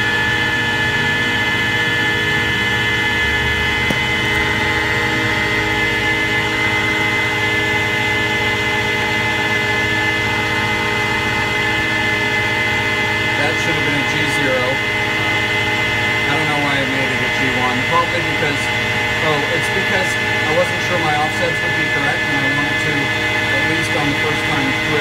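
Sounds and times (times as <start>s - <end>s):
lathe humming and whining: 0.0s - 25.0s.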